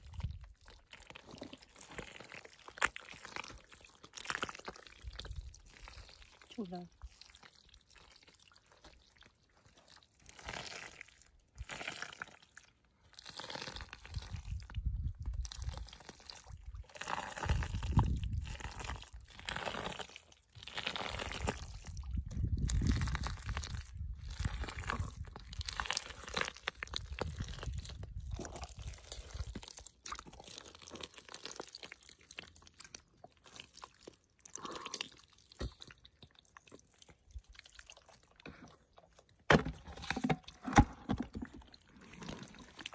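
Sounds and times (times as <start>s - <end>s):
dried mud crust crunching: 0.0s - 6.5s, 7.1s - 38.2s.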